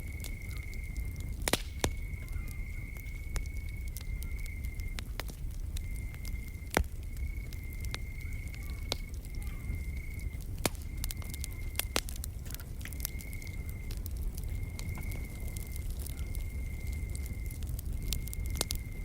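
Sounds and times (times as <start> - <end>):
low steady fire rumble: 0.0 - 19.0
wood fire crackling and popping: 0.0 - 19.0.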